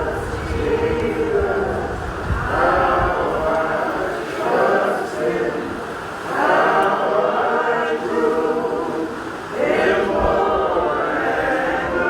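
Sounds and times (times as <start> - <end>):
choir singing long notes: 0.0 - 12.0.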